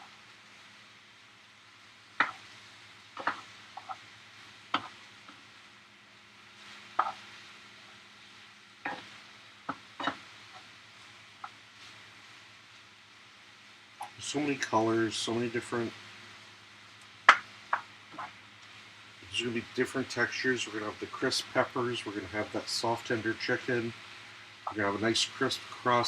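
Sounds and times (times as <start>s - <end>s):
faint sizzle: 0.0s - 26.0s.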